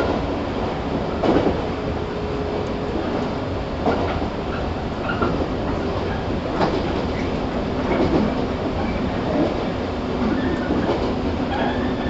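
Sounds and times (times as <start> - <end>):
steady train hum: 0.0 - 12.0
train wheel-on-rail rumble: 0.0 - 12.0.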